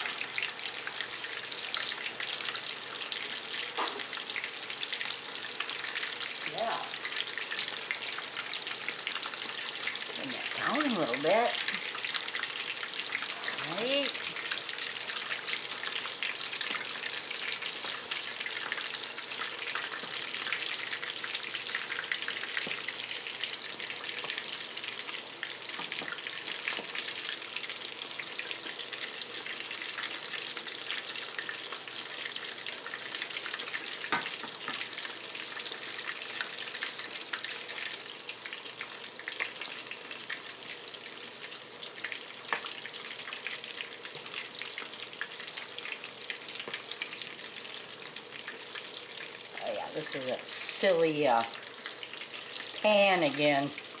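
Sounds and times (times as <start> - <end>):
food deep-frying in oil: 0.0 - 54.0.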